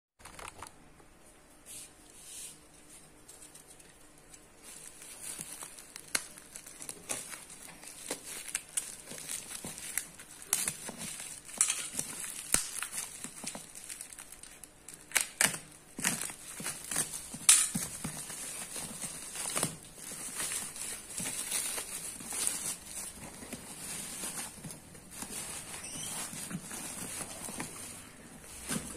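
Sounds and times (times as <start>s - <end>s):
bubble wrap and tape crinkling: 1.7s - 28.9s.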